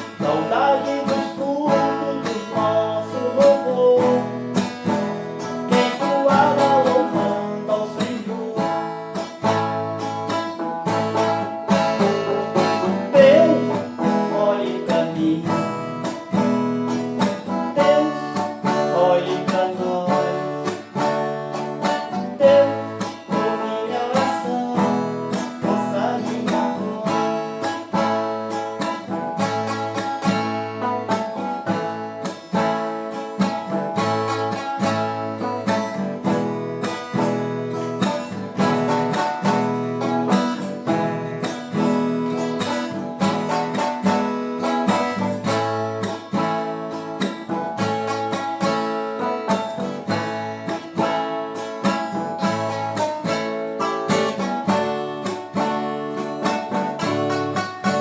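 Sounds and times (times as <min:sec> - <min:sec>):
folk viola strummed and plucked: 0:00.0 - 0:58.0.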